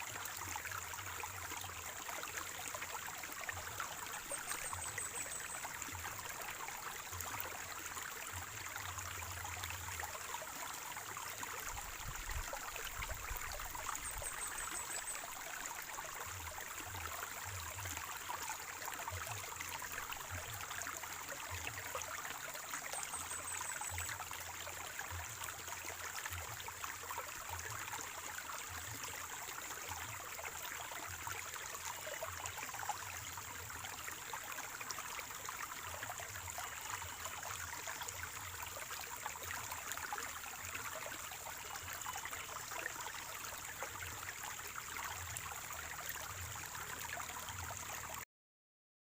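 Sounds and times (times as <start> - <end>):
stream trickling over rocks: 0.0 - 48.2.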